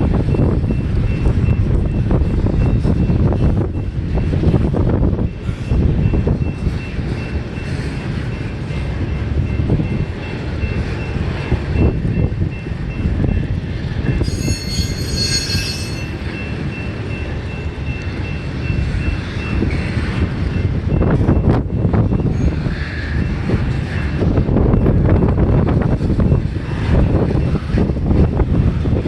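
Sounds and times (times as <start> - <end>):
freight train rumbling past: 0.0 - 29.0
wind buffeting microphone: 0.0 - 29.0
train wheel squeal: 0.1 - 28.9.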